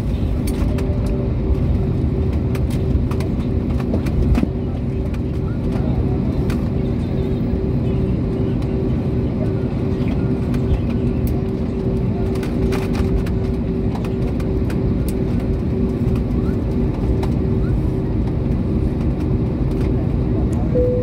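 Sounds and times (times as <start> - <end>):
jet engines low rumble: 0.0 - 21.0.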